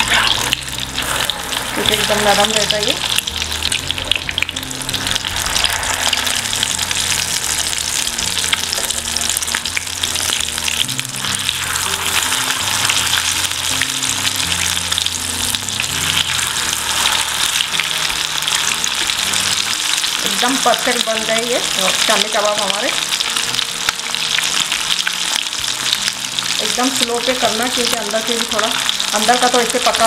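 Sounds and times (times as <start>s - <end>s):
kebabs sizzling in hot oil: 0.0s - 30.0s
spatulas turning food: 0.0s - 30.0s.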